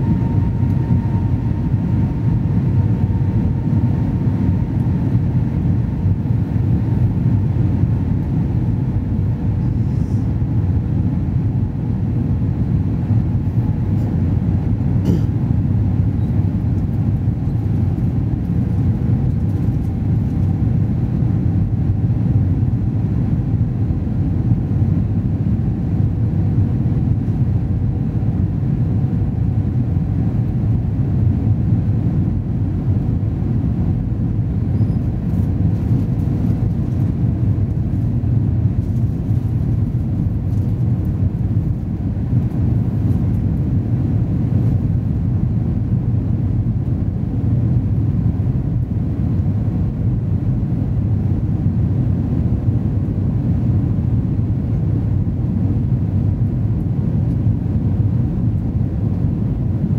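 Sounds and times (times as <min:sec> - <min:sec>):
faint steady hum: 0:00.0 - 0:59.9
low roar of jet engines: 0:00.0 - 0:59.9.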